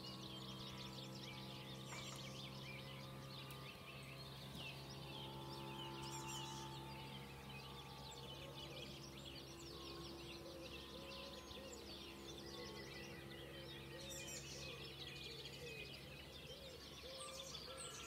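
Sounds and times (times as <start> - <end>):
steady low hum: 0.0 - 17.9
songbirds chirping: 0.0 - 18.0.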